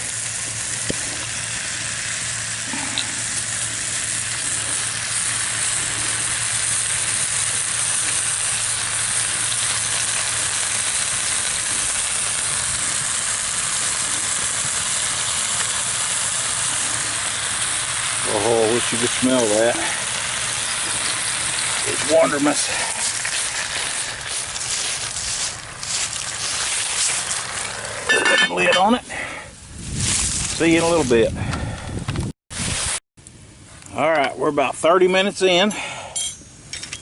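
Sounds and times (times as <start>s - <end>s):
chicken sizzling in a pot: 0.0s - 31.3s.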